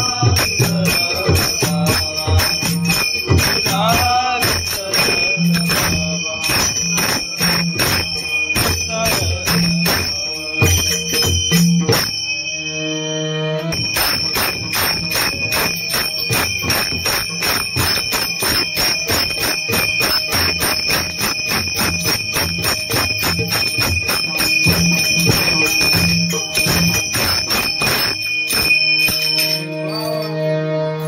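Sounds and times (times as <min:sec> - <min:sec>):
hand drums played fast: 0:00.0 - 0:12.2, 0:13.8 - 0:29.2
small hand cymbals clashing: 0:00.0 - 0:12.3, 0:13.8 - 0:30.6
sustained harmonium tones: 0:00.0 - 0:31.0.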